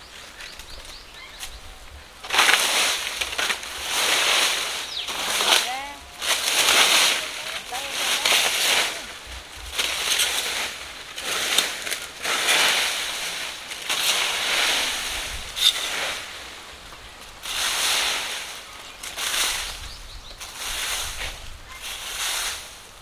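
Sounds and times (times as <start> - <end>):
rake scraping through dry leaves: 0.0 - 23.0.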